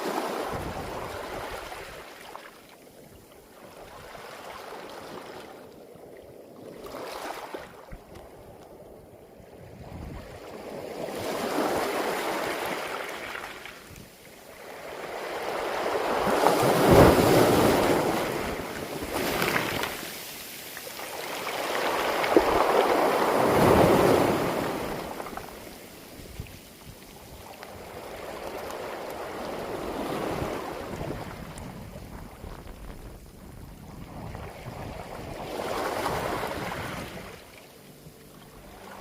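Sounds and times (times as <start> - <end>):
waves washing over a beach: 0.0 - 39.0.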